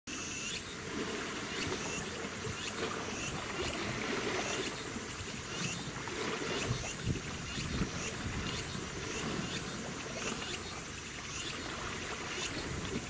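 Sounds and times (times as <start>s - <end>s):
high-pitched pulsing buzz: 0.1s - 0.8s, 1.4s - 13.0s
boat moving on water: 0.1s - 13.0s.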